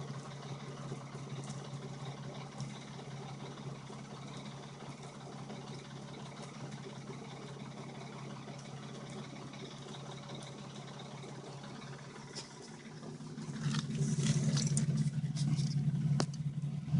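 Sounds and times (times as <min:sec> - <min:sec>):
car engine idling: 0:00.0 - 0:16.9
faint engine ticks: 0:00.0 - 0:16.9.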